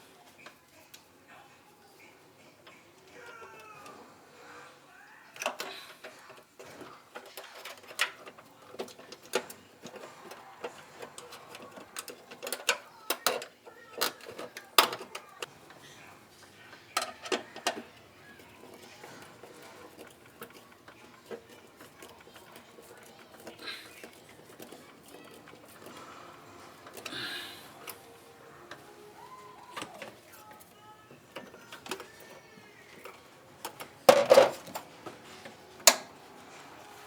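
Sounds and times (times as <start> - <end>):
hand tools clicking and knocking: 1.9 - 4.6, 5.3 - 37.0.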